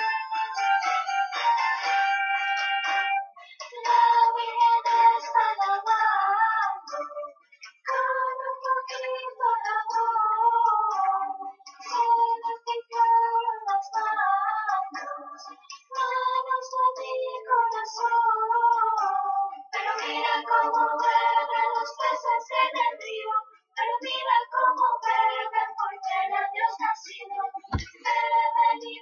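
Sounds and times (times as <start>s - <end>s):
high voice singing slow melody: 3.4s - 29.0s.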